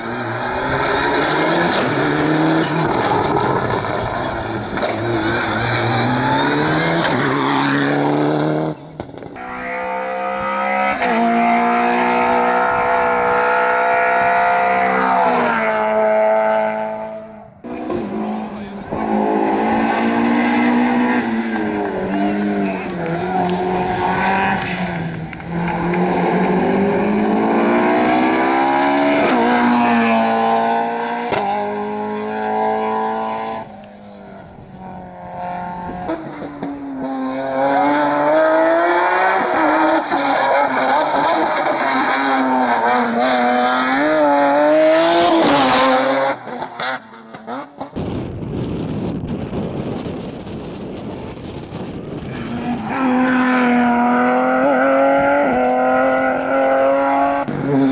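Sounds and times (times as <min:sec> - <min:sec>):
rally car engines revving: 0:00.0 - 0:48.2, 0:48.8 - 0:57.9.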